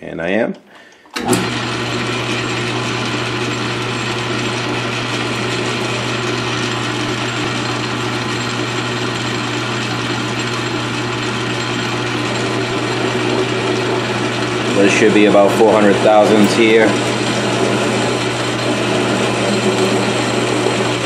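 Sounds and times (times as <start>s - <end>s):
metal lathe humming and rattling: 1.1s - 21.0s.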